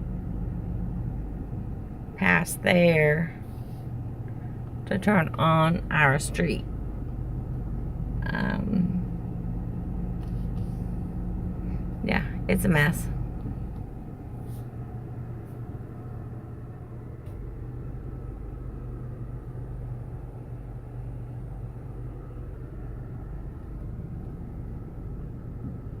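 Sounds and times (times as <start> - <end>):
car engine hum and road noise: 0.0 - 26.0.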